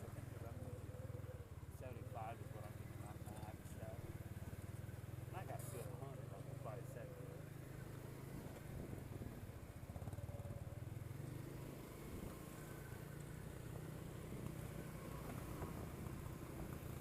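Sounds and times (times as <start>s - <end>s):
quad bike engine idling: 0.0s - 17.0s.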